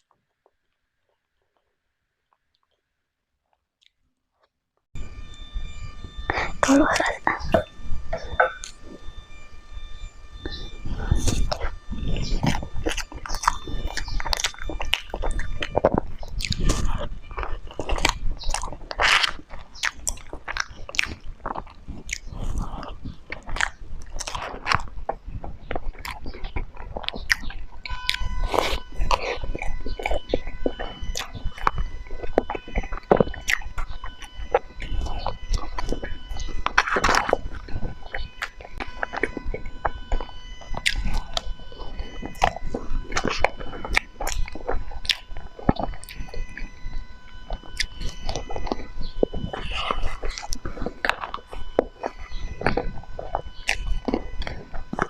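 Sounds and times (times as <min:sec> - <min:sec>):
chewing cake: 0:10.4 - 0:55.0
mouth clicks and smacks: 0:10.4 - 0:55.0.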